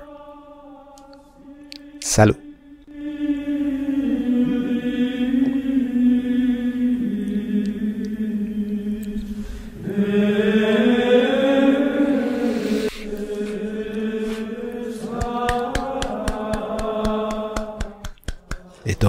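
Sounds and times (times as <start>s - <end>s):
voices singing chant: 0.0s - 19.0s.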